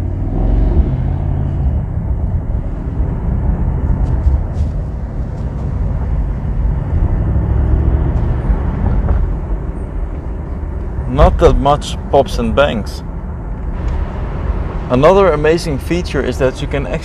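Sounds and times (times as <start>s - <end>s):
car exhaust deep rumble: 0.0s - 17.0s.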